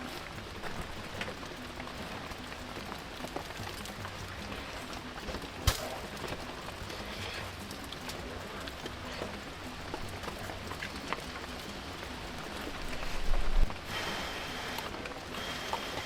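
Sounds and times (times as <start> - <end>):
drips and small ticks: 0.0 - 16.0
rain falling: 0.0 - 16.0.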